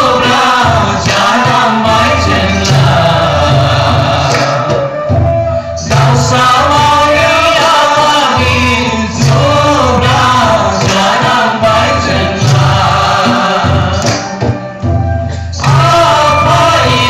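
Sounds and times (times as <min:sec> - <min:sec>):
choir singing a hymn: 0:00.0 - 0:05.0, 0:06.1 - 0:14.6, 0:15.6 - 0:17.0
low musical accompaniment: 0:00.0 - 0:17.0.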